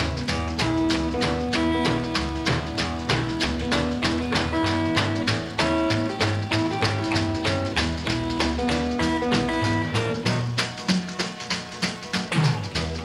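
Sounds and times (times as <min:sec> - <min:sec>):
rockabilly instrumental music: 0:00.0 - 0:13.0.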